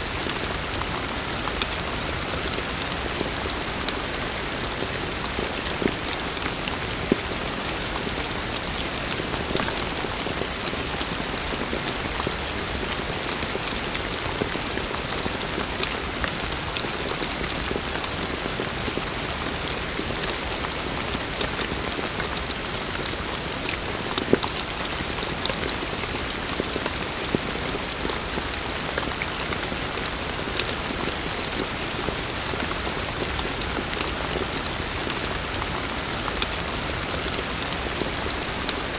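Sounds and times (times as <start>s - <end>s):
rain drops ticking nearby: 0.0s - 38.9s.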